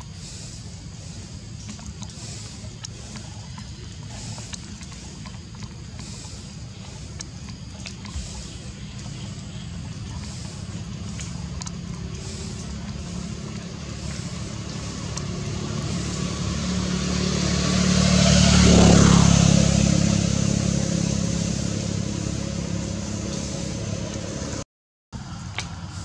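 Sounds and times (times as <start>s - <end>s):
vehicle passing by: 0.0s - 24.6s.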